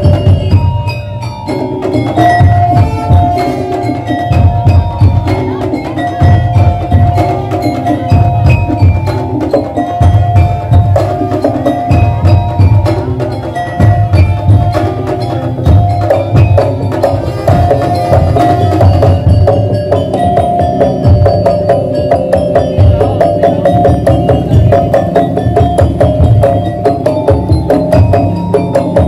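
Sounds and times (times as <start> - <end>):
bass drum beats: 0.0 - 29.0
knocking percussion ensemble: 0.0 - 29.0
sustained melody line: 0.0 - 29.0.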